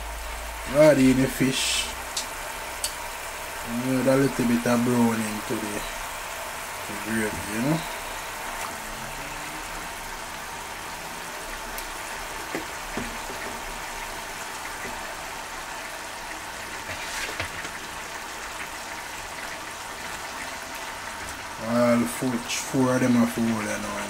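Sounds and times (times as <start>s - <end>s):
gravy bubbling in a pan: 0.0s - 24.0s.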